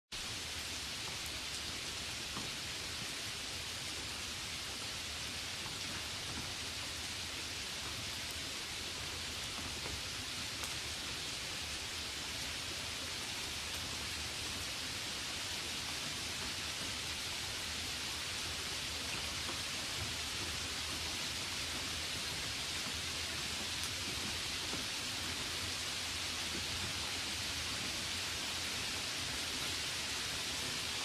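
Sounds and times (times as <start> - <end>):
steady rain falling: 0.1 - 31.0.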